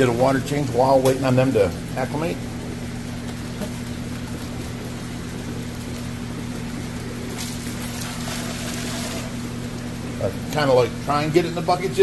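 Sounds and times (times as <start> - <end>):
water splashing and trickling: 0.0 - 11.0
aquarium pumps humming: 0.0 - 12.0.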